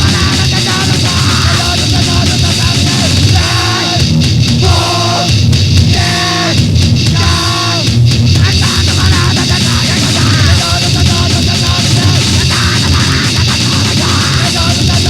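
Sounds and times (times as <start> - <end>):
distorted punk band: 0.0 - 15.0.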